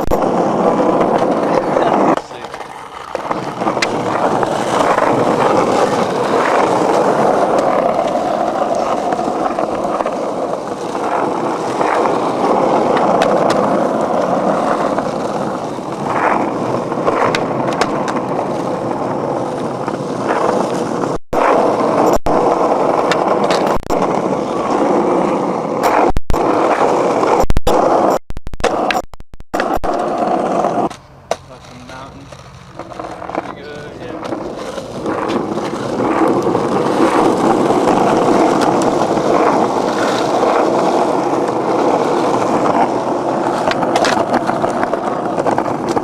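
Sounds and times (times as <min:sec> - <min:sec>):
skateboard clacks: 0:00.0 - 0:29.0, 0:29.6 - 0:46.0
skateboard wheels rolling on concrete: 0:00.0 - 0:46.0.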